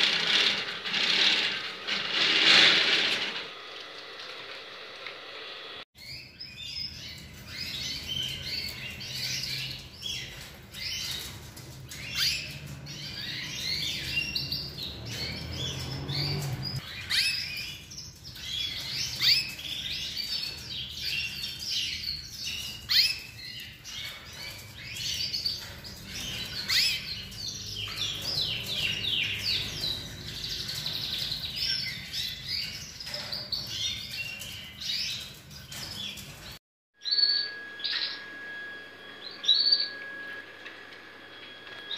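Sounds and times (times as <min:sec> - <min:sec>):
canaries trilling: 0:06.0 - 0:40.1.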